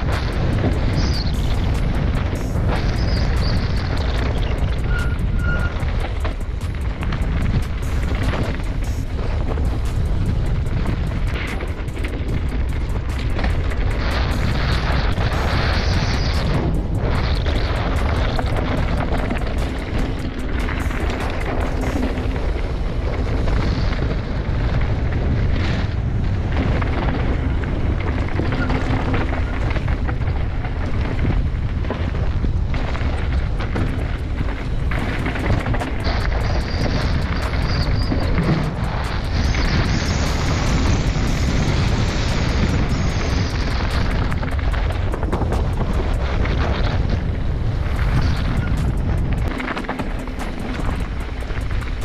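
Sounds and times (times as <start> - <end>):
bike tyres crunching on dirt: 0.0 - 52.0
wind buffeting microphone: 0.0 - 52.0.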